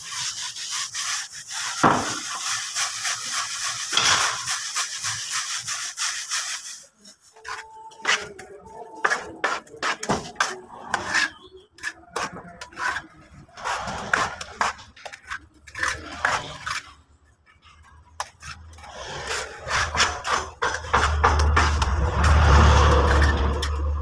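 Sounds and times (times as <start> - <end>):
float scraping cement render: 0.0 - 24.0.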